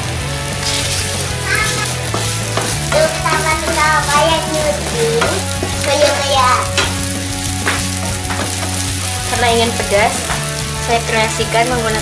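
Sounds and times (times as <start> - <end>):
hot pan sizzling: 0.0 - 12.0
spatula scraping and knocking wok: 0.0 - 12.0.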